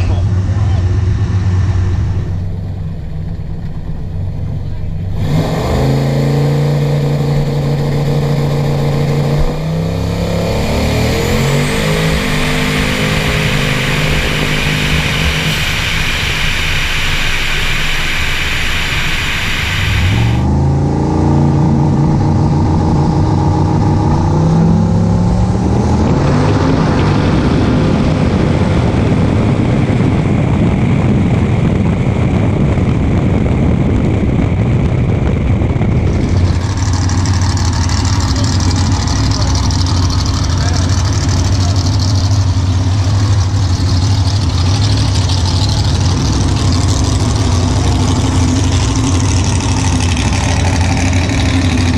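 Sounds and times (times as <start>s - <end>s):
drag racing engines at full throttle: 0.0s - 51.9s.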